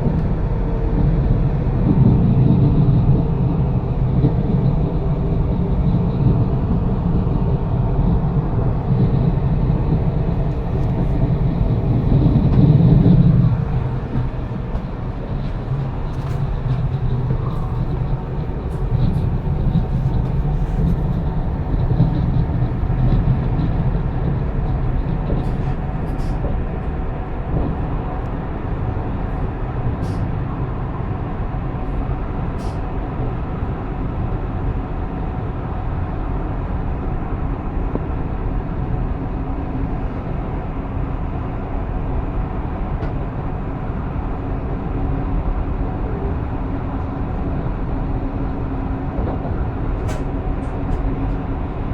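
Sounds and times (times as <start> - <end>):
train rumbling at speed: 0.0 - 51.9.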